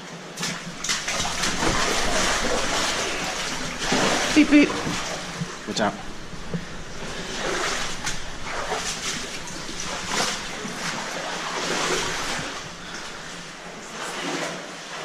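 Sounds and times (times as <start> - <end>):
water rushing and splashing: 0.2 - 15.0.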